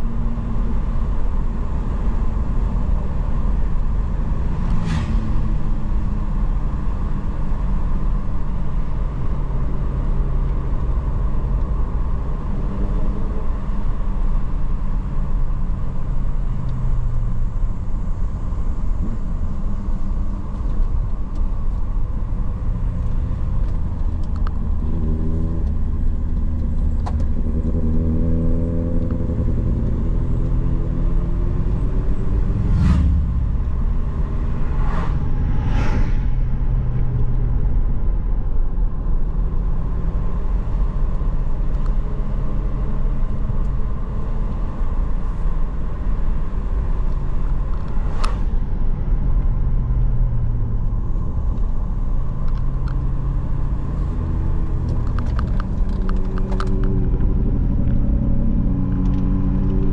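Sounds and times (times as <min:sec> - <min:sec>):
road noise: 0:00.0 - 0:59.9
vehicle engine: 0:00.0 - 0:59.9.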